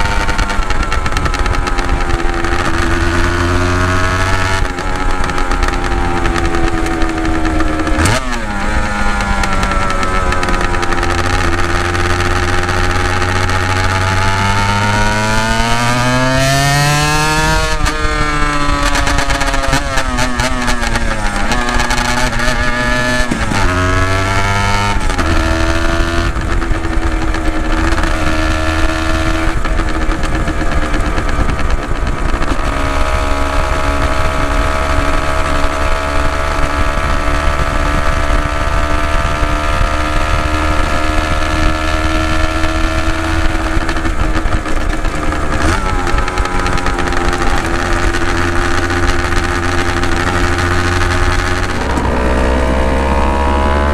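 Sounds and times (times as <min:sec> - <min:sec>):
two-stroke motorcycle exhaust: 0:00.0 - 0:53.9.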